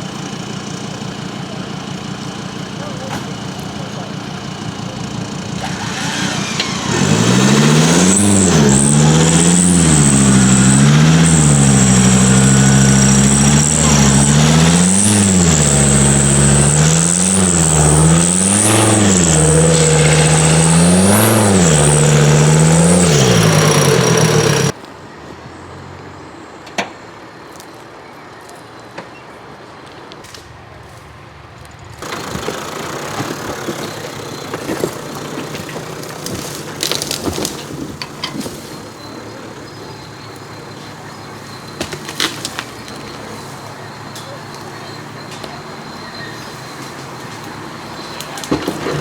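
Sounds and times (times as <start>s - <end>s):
vehicle engine revving: 0.0s - 24.8s, 32.0s - 49.0s.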